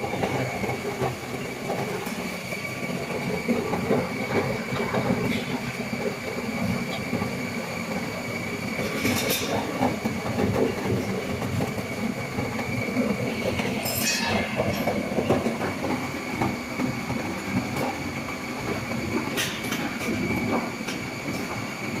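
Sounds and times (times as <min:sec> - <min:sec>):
juice extractor machine running: 0:00.0 - 0:22.0.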